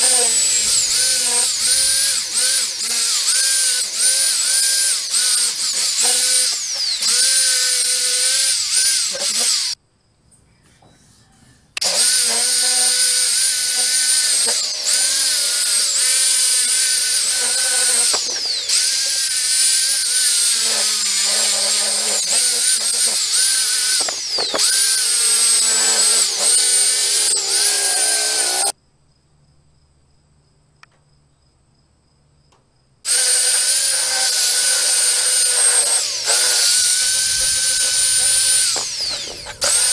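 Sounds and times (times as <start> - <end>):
electric drill polishing metal: 0.0 - 9.8, 11.8 - 28.7, 33.1 - 39.9.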